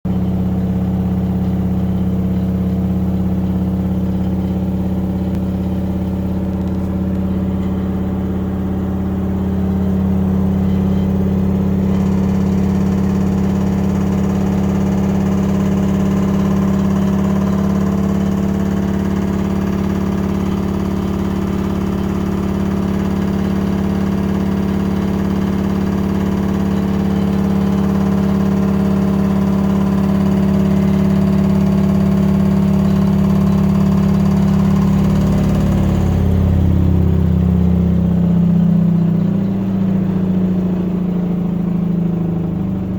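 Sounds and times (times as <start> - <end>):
washing machine spinning: 0.4 - 42.9.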